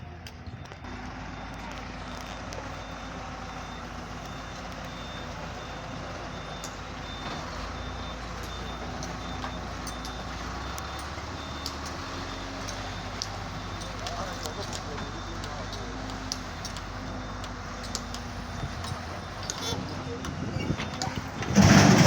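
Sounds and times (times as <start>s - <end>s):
heavy diesel machinery running: 0.0s - 22.0s
reversing alarm beeping: 0.0s - 22.0s.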